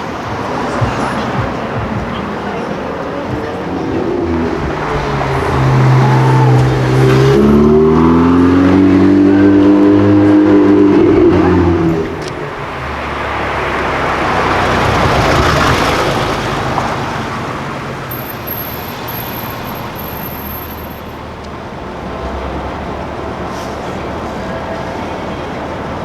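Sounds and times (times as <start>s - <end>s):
car engine: 0.0s - 26.0s
vehicle passing: 0.0s - 26.0s.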